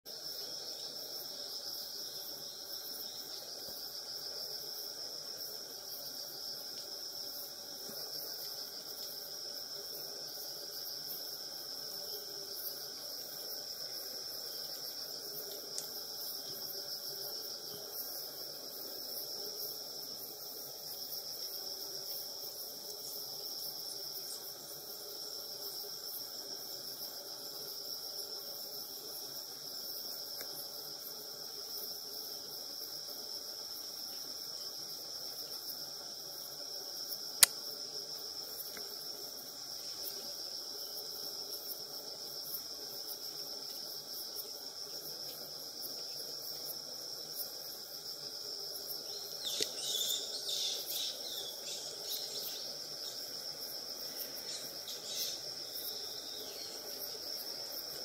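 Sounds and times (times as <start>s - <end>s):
insects chorus: 0.1s - 58.0s.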